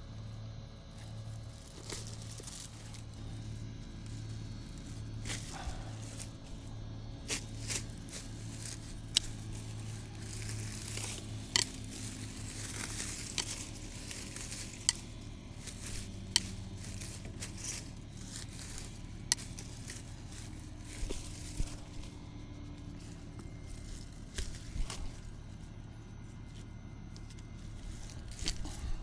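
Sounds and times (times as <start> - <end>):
weeds and brush rustling: 0.8 - 29.0.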